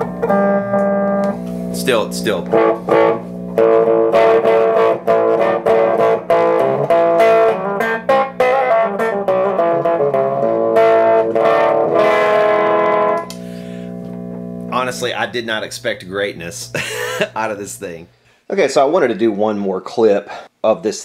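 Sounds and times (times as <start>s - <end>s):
electric guitar strumming chords: 0.0s - 18.2s.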